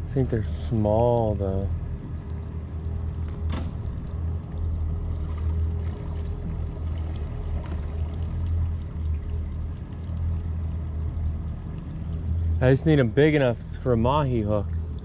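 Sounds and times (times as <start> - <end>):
outboard motors idling: 0.0 - 15.0
water sloshing along hull: 0.0 - 15.0.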